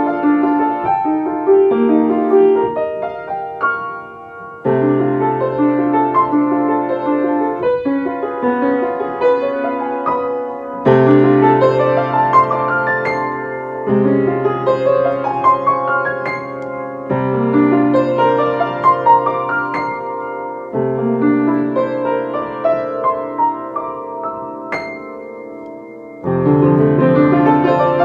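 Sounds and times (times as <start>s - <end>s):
slow gentle piano piece: 0.0s - 28.0s.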